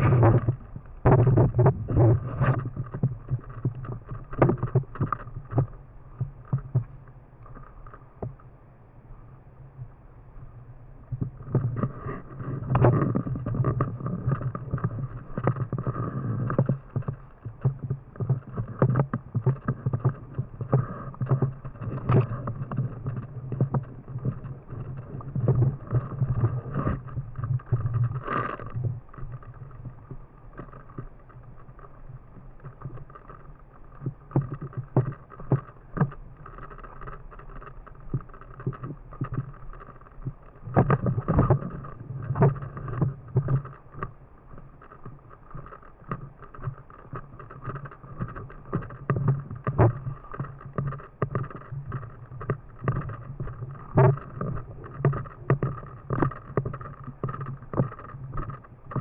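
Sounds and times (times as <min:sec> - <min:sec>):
sharp clicks and pops: 0:00.0 - 0:08.4, 0:11.2 - 0:59.0.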